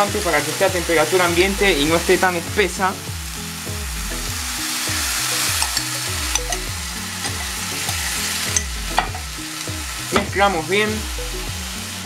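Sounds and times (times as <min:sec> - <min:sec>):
chicken sizzling in a frying pan: 0:00.0 - 0:12.0
soft background music: 0:00.0 - 0:12.0.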